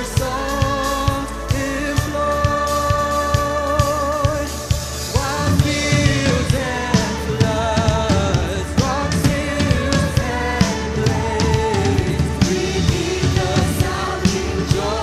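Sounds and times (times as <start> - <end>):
drum kit beat: 0.0 - 15.0
vibrato singing voices: 0.0 - 15.0
worship band playing upbeat song: 0.0 - 15.0.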